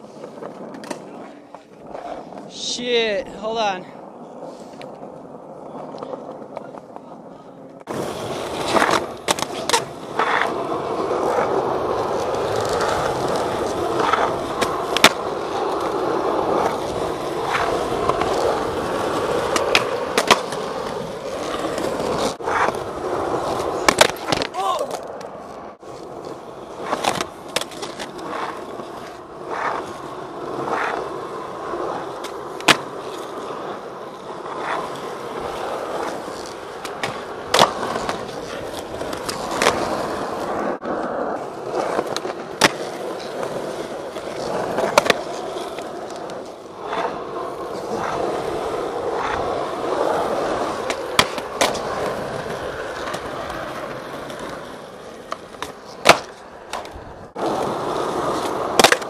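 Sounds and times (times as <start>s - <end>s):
skateboard wheels rolling on asphalt: 0.0s - 59.0s
skateboard popping and landing clacks: 0.2s - 2.7s, 4.7s - 59.0s.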